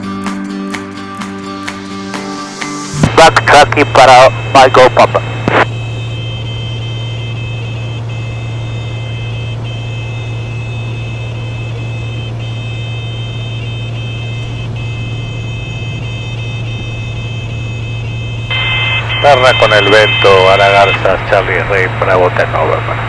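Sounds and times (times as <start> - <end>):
propeller plane engine droning: 0.9 - 23.0.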